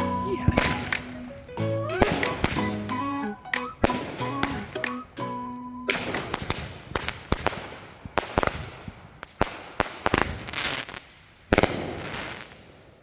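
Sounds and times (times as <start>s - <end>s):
fireworks bangs and crackling: 0.0s - 5.2s, 5.9s - 13.0s.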